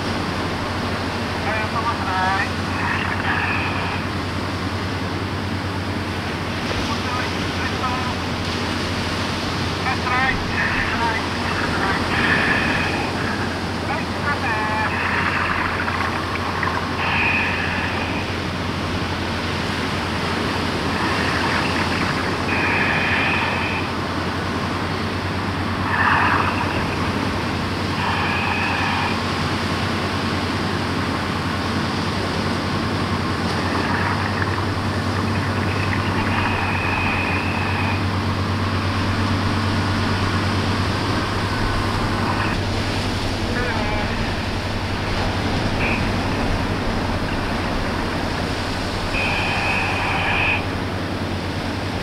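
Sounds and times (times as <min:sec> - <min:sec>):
distant short calls: 0:00.0 - 0:06.0, 0:07.0 - 0:30.4, 0:32.4 - 0:52.0
crane machinery humming: 0:00.0 - 0:52.0
waves breaking: 0:00.0 - 0:52.0
wind: 0:00.0 - 0:52.0.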